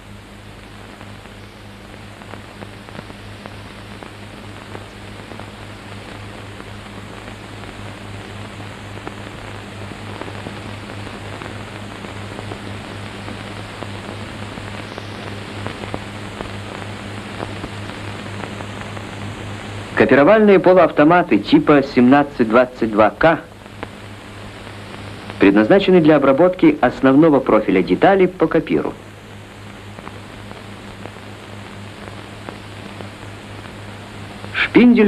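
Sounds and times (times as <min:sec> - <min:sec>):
faint crackles: 0:00.0 - 0:35.0
low steady hum: 0:00.0 - 0:35.0
steady hiss: 0:00.0 - 0:35.0.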